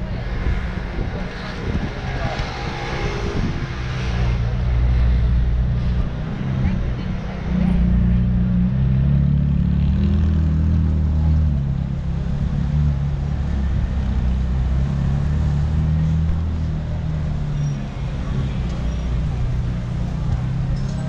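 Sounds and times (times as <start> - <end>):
street traffic noise: 0.0 - 21.0
vehicle engine rumbling: 0.0 - 21.0.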